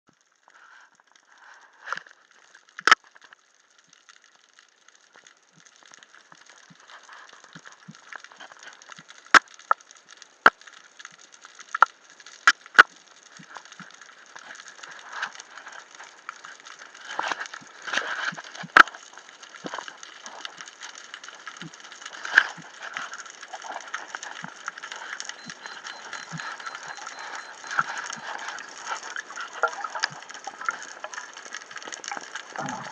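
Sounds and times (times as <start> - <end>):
underwater crackling: 0.1 - 32.9.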